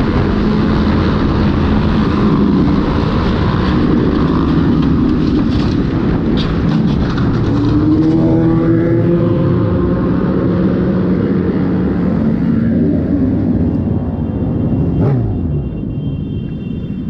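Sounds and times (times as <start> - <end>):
wind noise: 0.0 - 14.6.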